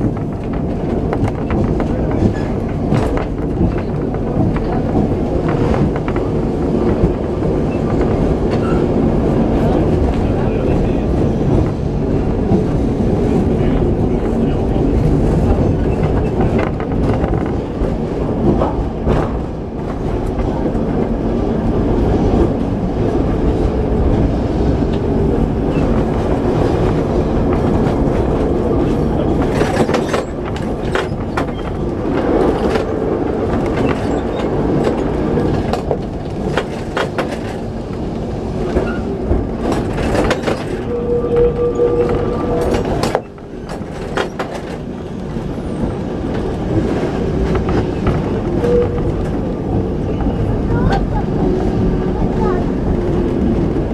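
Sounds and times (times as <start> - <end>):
tram rumbling and rattling: 0.0 - 53.9.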